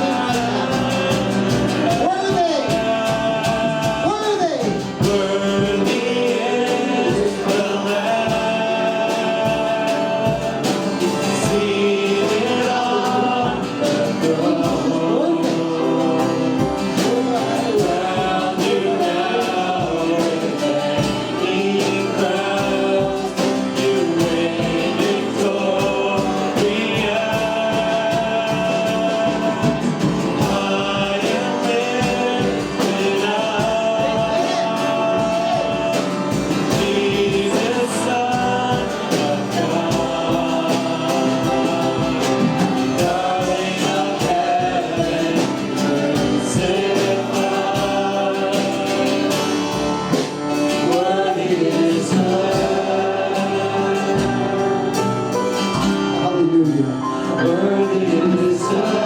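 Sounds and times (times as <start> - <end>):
gospel worship song singing: 0.0 - 59.0
instrumental accompaniment: 0.0 - 59.0.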